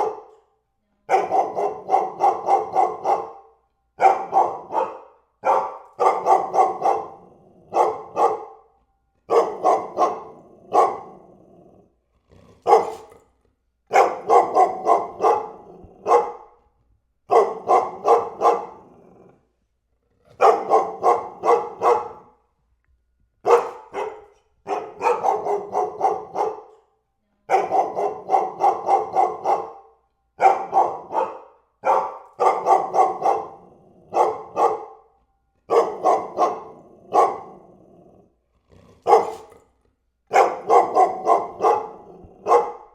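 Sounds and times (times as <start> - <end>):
dog barking: 0.0 - 0.5, 1.1 - 11.4, 12.6 - 13.2, 13.9 - 16.7, 17.3 - 19.4, 20.3 - 22.4, 23.4 - 37.8, 39.0 - 39.6, 40.3 - 42.9.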